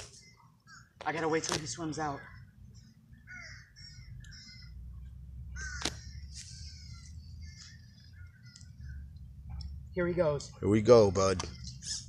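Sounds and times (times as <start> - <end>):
harsh crow-like bird calls: 0.0 - 10.4.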